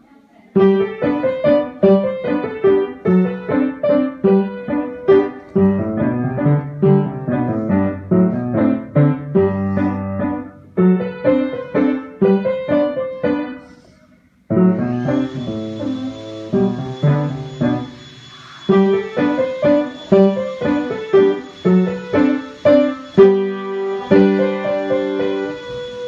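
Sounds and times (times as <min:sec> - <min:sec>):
piano melody over chords: 0:00.6 - 0:13.7, 0:14.5 - 0:18.1, 0:18.7 - 0:26.0.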